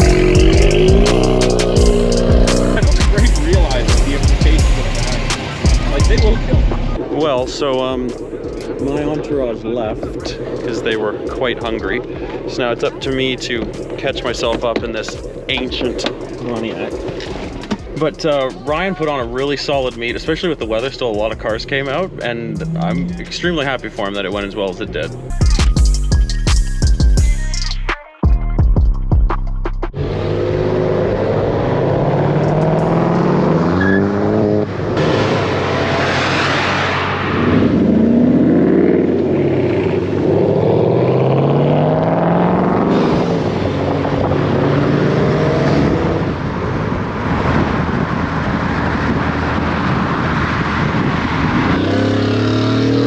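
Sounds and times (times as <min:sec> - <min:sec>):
car engine accelerating: 0:00.0 - 0:28.0, 0:28.6 - 0:53.0.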